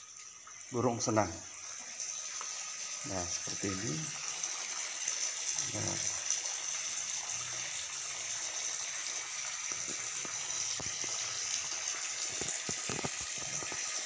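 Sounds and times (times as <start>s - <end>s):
water trickling from pipe: 0.0s - 14.0s.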